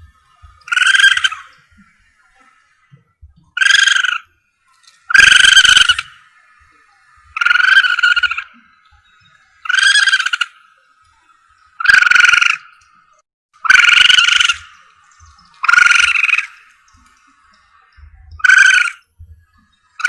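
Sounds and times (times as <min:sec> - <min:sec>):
high-pitched lure calls: 0:00.1 - 0:02.6, 0:03.5 - 0:06.4, 0:07.3 - 0:13.0, 0:13.6 - 0:20.0.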